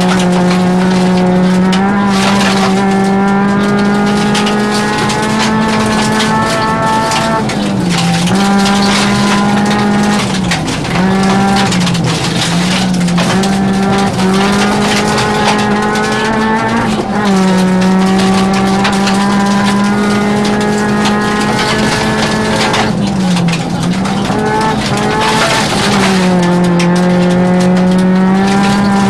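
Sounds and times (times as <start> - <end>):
rally car engine at high revs: 0.0 - 29.0
stones pattering on car underside: 0.0 - 29.0.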